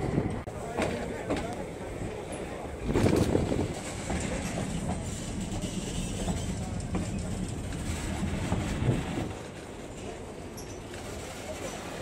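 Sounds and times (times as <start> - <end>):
train cars rumbling on track: 0.0 - 12.0.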